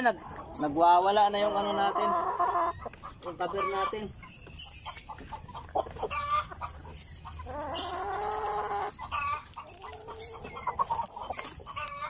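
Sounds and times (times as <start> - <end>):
hens calling: 0.0 - 12.0.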